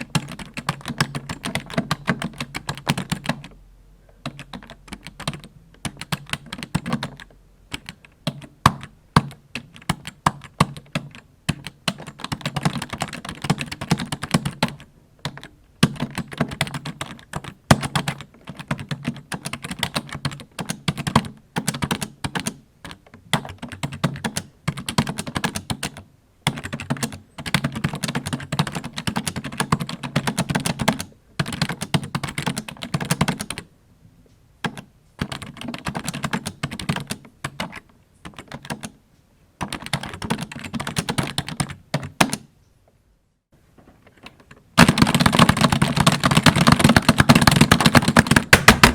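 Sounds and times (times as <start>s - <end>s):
typing on computer keyboard: 0.0s - 33.7s, 34.6s - 39.0s, 39.6s - 42.5s, 44.1s - 48.9s.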